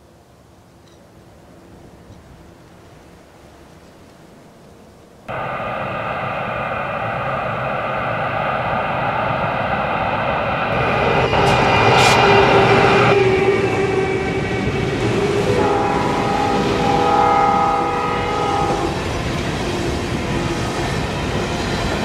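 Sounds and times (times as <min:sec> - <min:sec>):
electric locomotives approaching: 0:00.1 - 0:22.0.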